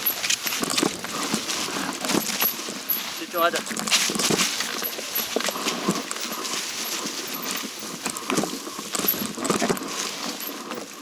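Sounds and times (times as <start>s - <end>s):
bike rattling over rough trail: 0.0s - 11.0s.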